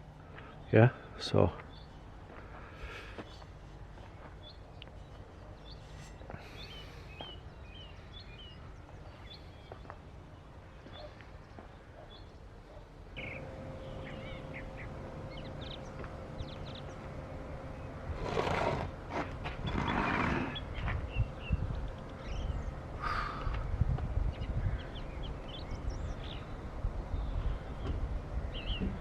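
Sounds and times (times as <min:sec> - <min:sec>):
birds chirping: 0:00.0 - 0:29.0
low steady hum: 0:00.0 - 0:29.0.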